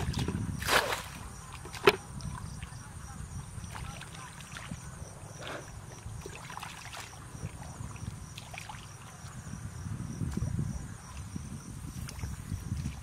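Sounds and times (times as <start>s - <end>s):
feet splashing through muddy water: 0.0s - 2.8s, 3.6s - 13.0s
insect chirping: 0.0s - 13.0s.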